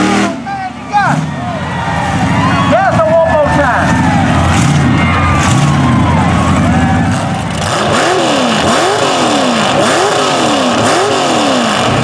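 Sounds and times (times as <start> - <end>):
heavy truck engine running: 0.0 - 12.0
truck engine revving: 0.0 - 12.0.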